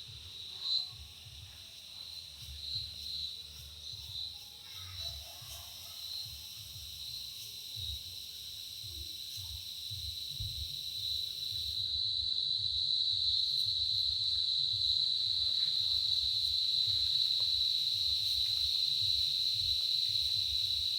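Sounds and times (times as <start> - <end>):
insects high-pitched drone: 0.0 - 20.9.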